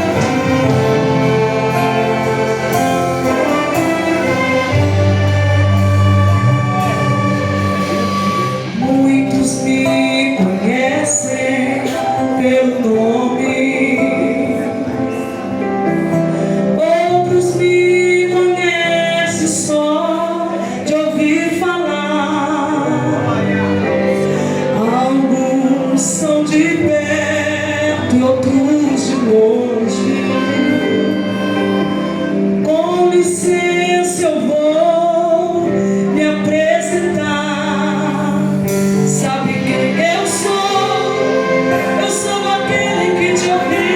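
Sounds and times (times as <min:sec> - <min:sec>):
woman singing gospel: 0:00.0 - 0:15.4, 0:16.7 - 0:43.9
sustained instrumental accompaniment: 0:00.0 - 0:18.9, 0:20.4 - 0:43.9.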